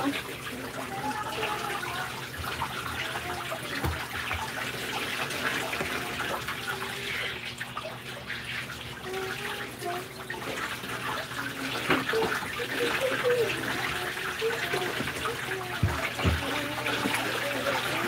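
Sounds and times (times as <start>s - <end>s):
running water splashing: 0.0s - 18.0s.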